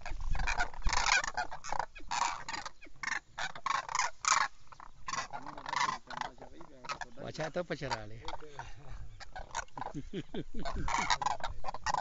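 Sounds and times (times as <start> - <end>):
cranes calling: 0.0 - 12.0.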